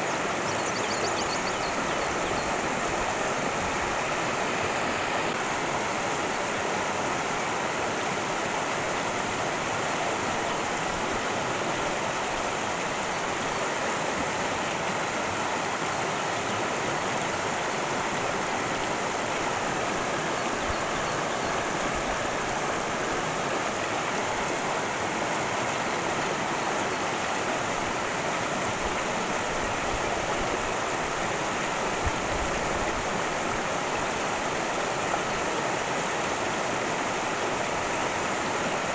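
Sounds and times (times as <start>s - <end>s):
water rushing over rocks: 0.1s - 38.9s.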